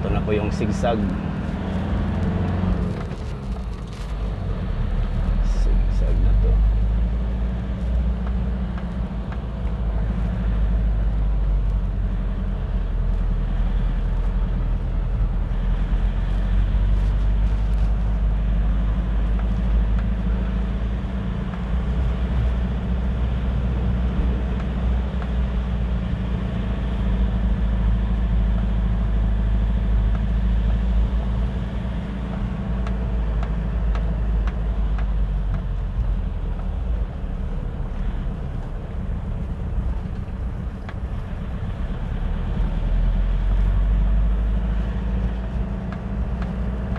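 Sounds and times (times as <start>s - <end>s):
car engine rumble: 0.0s - 46.9s
road noise inside car: 0.0s - 46.9s.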